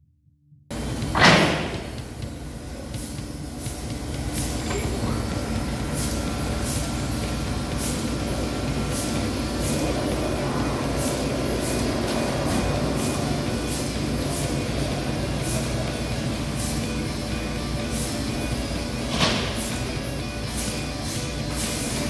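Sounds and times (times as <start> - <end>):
vacuum pump rumbling and hissing: 0.7 - 22.0.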